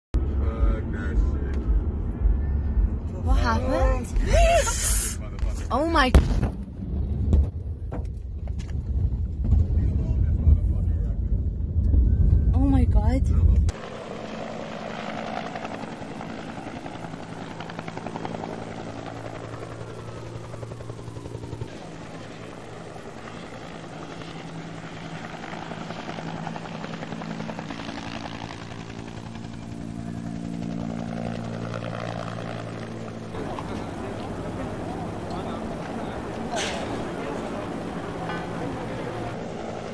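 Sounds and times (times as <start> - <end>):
helicopter engine and rotor droning: 0.2 - 39.9.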